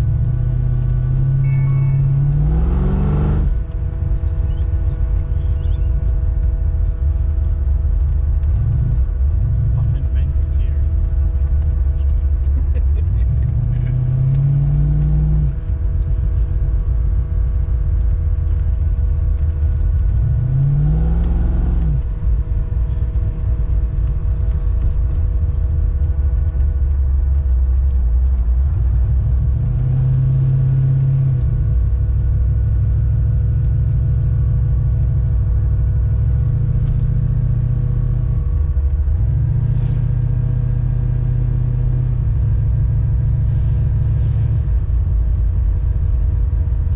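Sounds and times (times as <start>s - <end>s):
car engine revving under load: 0.0s - 46.9s.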